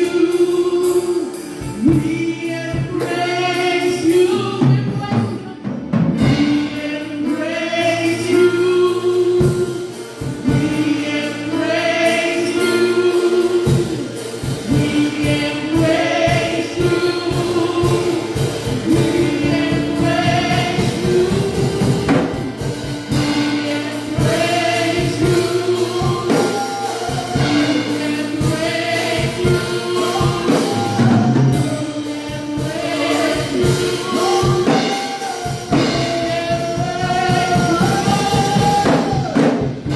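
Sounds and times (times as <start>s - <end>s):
instrumental accompaniment: 0.0s - 39.9s
steady percussive beat: 5.9s - 39.9s
choir singing: 6.2s - 39.9s.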